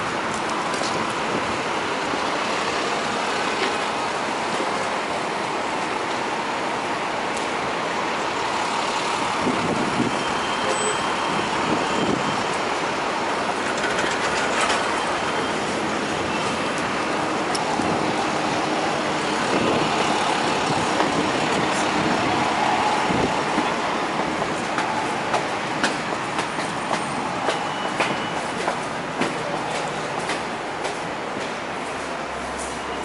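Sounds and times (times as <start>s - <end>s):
city street traffic: 0.0s - 33.0s.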